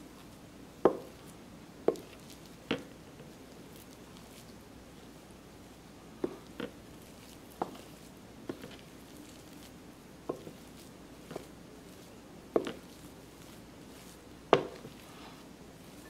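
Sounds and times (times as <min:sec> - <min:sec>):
wooden spoon stirring mashed potatoes: 0:00.1 - 0:04.6, 0:06.2 - 0:16.0.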